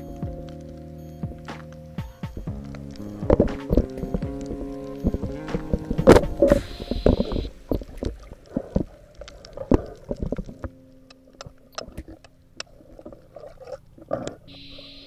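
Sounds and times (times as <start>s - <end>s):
faint steady hum: 0.0s - 15.0s
low muffled water wash: 0.0s - 15.0s.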